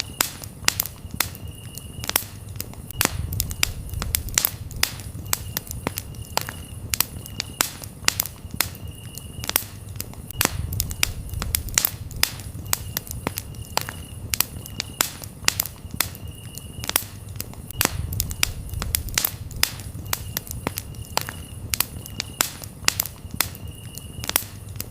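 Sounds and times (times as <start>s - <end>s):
campfire crackling and popping: 0.0s - 24.9s
crickets chirping: 0.0s - 24.9s.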